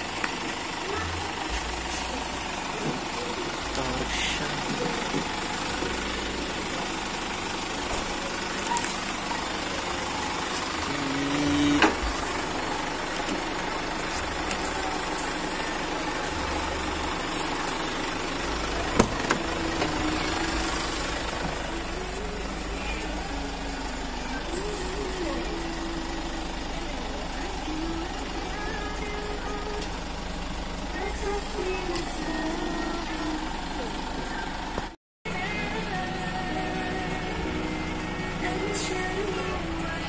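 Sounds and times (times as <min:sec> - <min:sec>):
minibus engine idling: 0:00.0 - 0:40.0.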